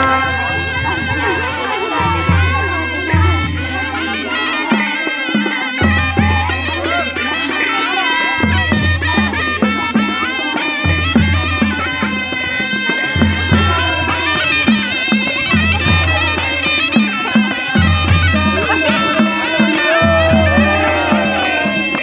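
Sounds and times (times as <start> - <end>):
reedy wind instrument melody: 0.0 - 22.0
steady drum beat: 0.0 - 22.0.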